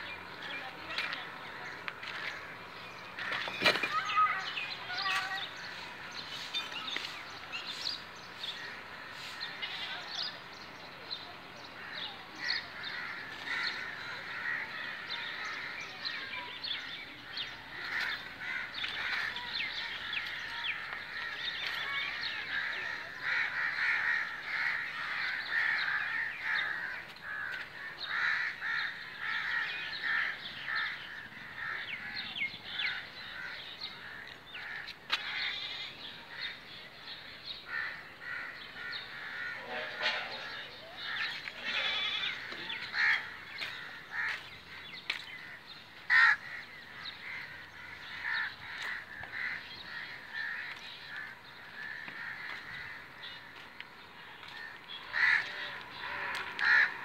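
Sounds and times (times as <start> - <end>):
flock of birds chattering: 0.0 - 57.0.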